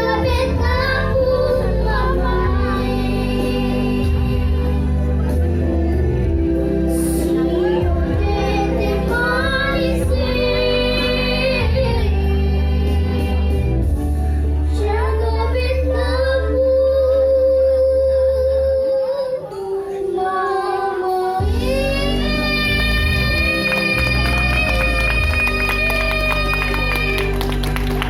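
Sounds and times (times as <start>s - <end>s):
girl singing: 0.0s - 4.5s, 7.0s - 13.6s, 14.7s - 27.3s
musical accompaniment: 0.0s - 28.0s.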